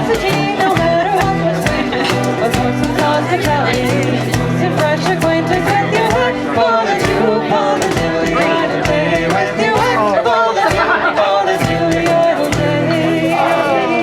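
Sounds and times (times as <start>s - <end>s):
banjo melody: 0.0s - 14.0s
strummed guitar beat: 0.0s - 14.0s.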